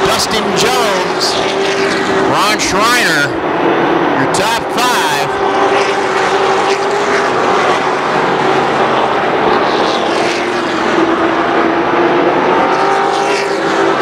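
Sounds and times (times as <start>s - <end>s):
racing truck engines droning: 0.0s - 14.0s.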